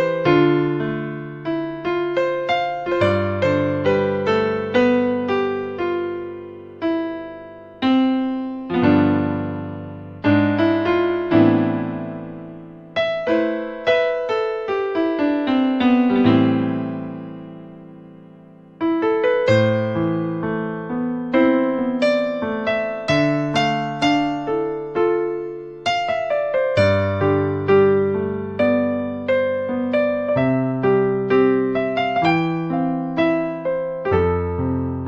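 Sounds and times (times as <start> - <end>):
keyboard piano chords and melody: 0.0 - 35.0.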